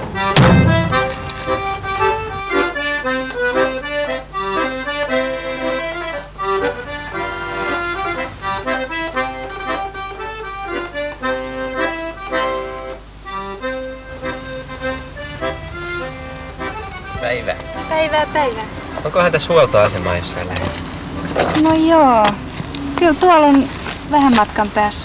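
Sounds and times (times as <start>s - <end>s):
accordion music: 0.0s - 25.0s.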